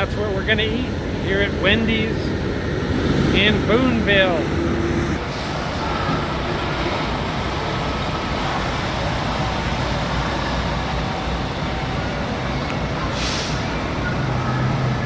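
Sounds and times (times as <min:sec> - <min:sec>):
road noise: 0:00.0 - 0:15.0
truck diesel engine running: 0:00.0 - 0:15.0.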